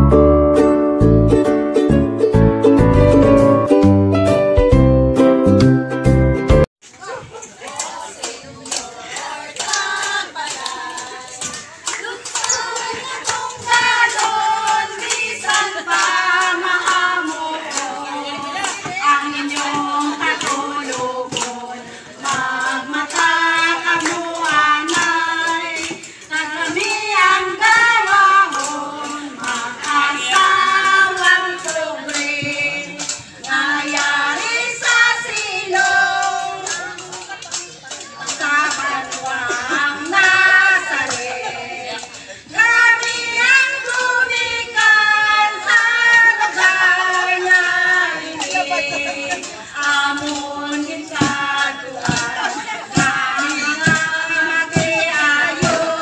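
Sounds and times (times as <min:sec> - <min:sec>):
women singing together: 0:07.0 - 0:56.0
hands clapping: 0:07.4 - 0:56.0.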